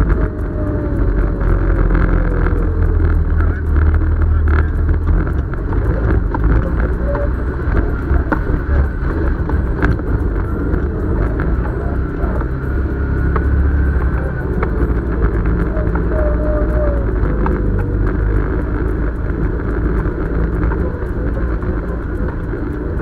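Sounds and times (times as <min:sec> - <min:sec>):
quad bike engine rumbling: 0:00.0 - 0:23.0.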